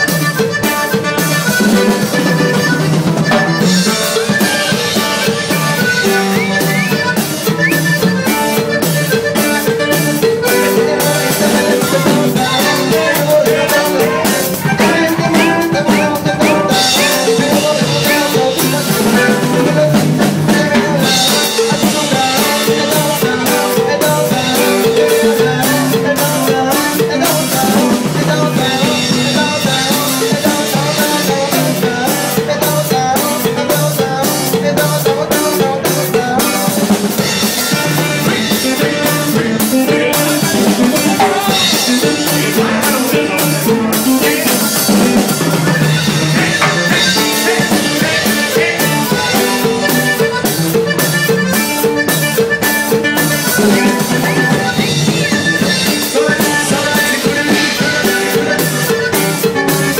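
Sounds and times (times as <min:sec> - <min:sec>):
steady drum beat: 0:00.0 - 0:59.9
loud dance music: 0:01.6 - 0:31.9, 0:35.7 - 0:52.0, 0:52.6 - 0:59.9.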